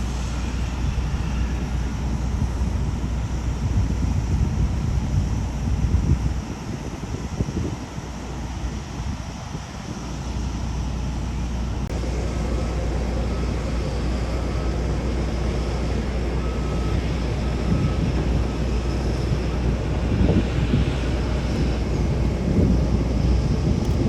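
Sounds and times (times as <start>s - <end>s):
jet engines rumbling: 0.0s - 24.0s
wind buffeting microphone: 0.0s - 24.0s.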